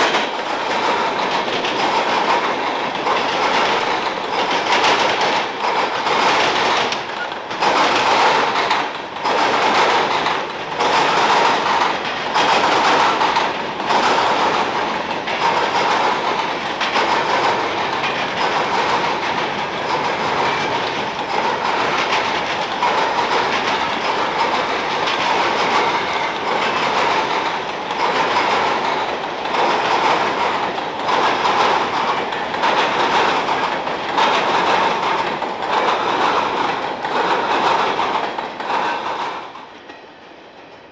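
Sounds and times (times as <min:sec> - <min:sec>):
freight train wheels clacking: 0:00.0 - 0:40.9.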